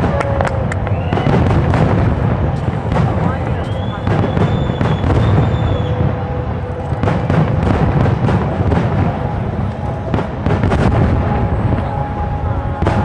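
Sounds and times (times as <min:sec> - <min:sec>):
continuous low rumble: 0:00.0 - 0:13.0
fireworks booms and crackles: 0:00.0 - 0:13.0.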